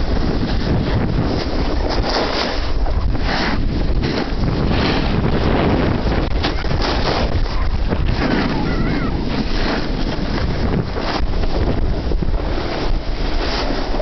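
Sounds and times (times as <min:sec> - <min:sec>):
snowboard edges scraping snow: 0:00.0 - 0:14.0
wind rushing over microphone: 0:00.0 - 0:14.0.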